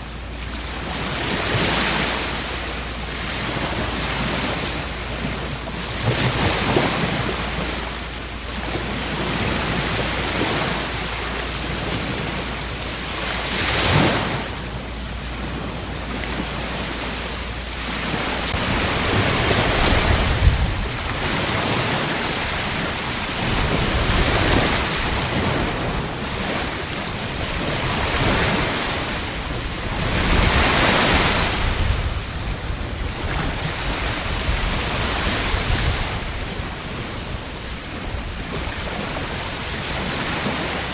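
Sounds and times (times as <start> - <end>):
ocean waves breaking: 0.0 - 40.9
wind: 0.0 - 40.9.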